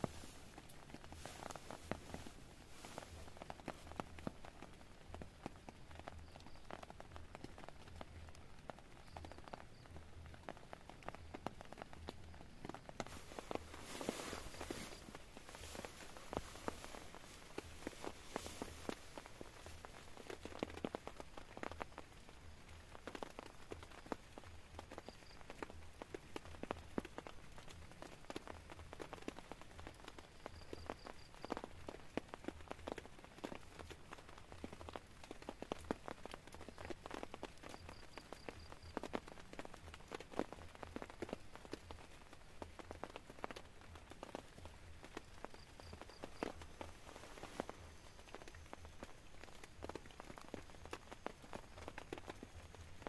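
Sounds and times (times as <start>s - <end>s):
faint hiss: 0.0s - 53.0s
rain drops tapping tent fabric: 0.0s - 53.0s.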